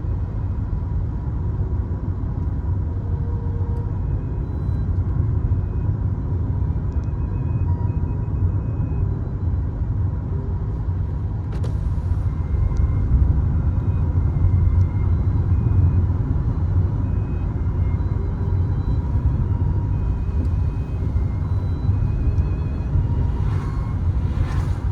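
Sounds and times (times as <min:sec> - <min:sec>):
car engine and road noise: 0:00.0 - 0:24.9.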